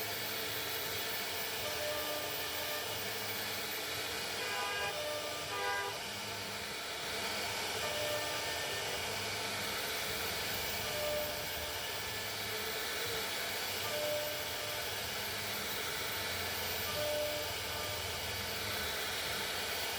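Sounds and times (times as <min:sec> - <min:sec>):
cnc router hissing: 0:00.0 - 0:19.9.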